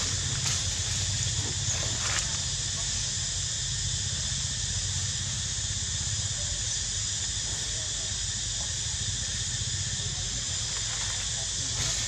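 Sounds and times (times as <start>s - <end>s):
high hiss: 0.0s - 12.0s.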